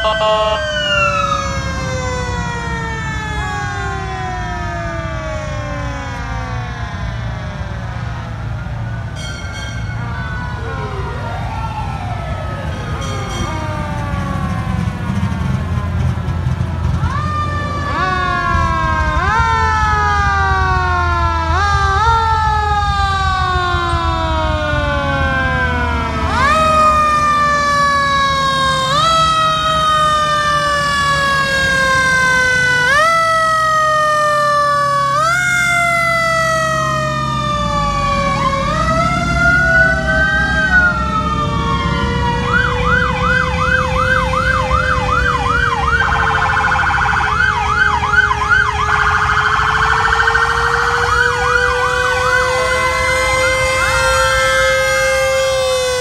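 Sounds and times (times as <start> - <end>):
fire truck sirens wailing: 0.0 - 56.0
low-pitched siren wail: 0.0 - 56.0
truck engine rumble: 0.0 - 56.0
warbling siren yelp: 0.0 - 56.0.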